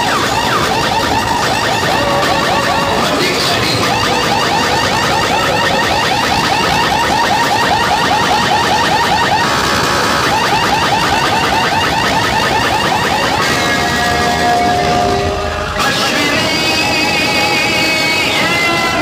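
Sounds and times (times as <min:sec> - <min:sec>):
dense noisy background: 0:00.0 - 0:19.0
electronic siren chirps: 0:00.0 - 0:19.0.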